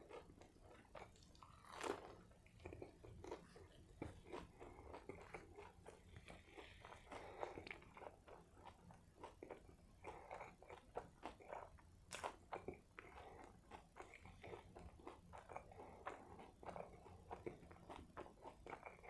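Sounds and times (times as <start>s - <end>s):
chewing with wet mouth smacks: 0.0s - 19.0s.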